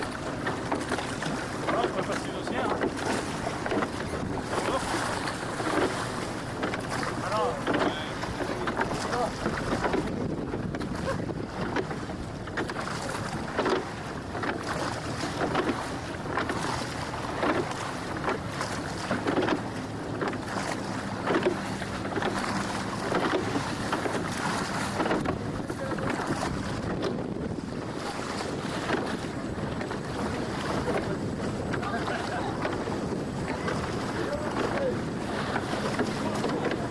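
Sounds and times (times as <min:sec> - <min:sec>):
water splashing along boat hull: 0:00.0 - 0:36.9
wind buffeting microphone: 0:00.0 - 0:36.9.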